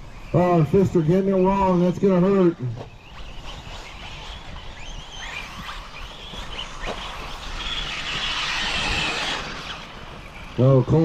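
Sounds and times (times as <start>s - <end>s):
rc car motors whining: 0.0s - 11.0s.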